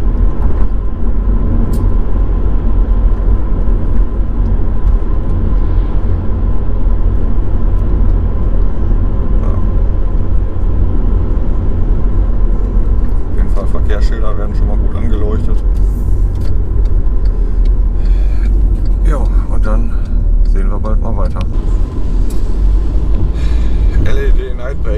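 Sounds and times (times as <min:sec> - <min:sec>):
car engine and tyre road noise: 0:00.0 - 0:24.9.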